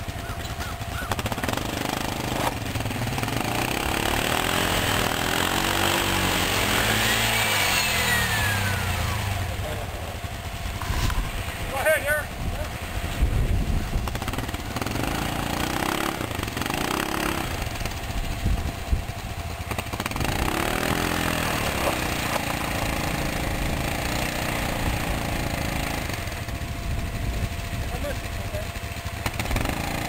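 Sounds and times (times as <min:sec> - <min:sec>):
atv engines revving: 0:00.0 - 0:30.0.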